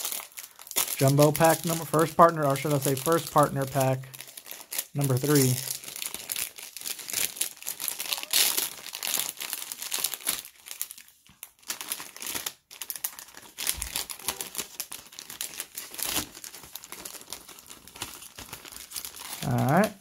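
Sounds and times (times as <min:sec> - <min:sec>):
foil packaging crinkling: 0:00.0 - 0:20.0.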